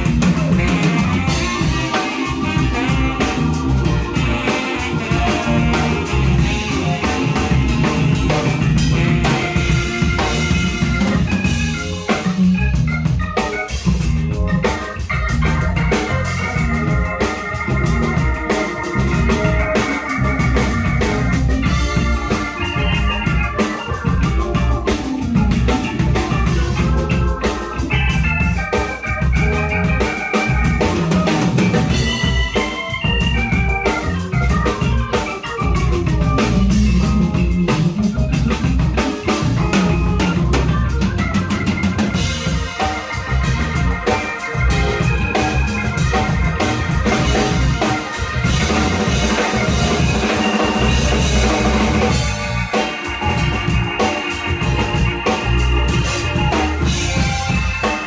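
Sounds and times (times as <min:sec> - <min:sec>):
organ-toned keyboard chords: 0:00.0 - 0:58.0
soul jazz band playing: 0:00.0 - 0:58.0.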